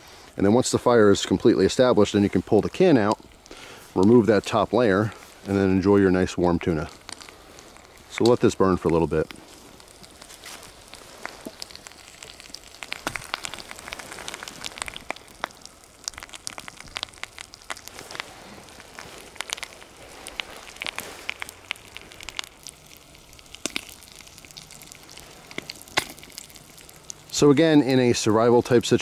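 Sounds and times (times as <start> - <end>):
twig fire crackling and popping: 0.0 - 29.0.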